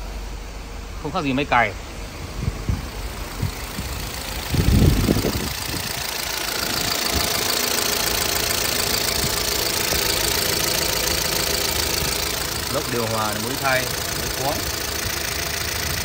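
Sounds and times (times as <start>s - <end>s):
car engine running with a knock: 2.2s - 16.0s.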